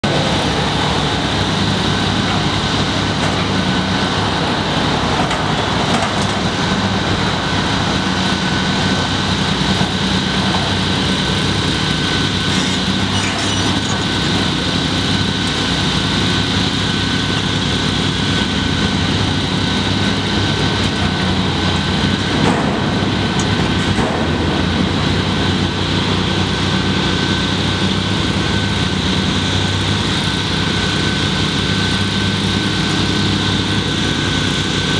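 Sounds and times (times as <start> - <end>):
excavator diesel engine under load: 0.0 - 34.9.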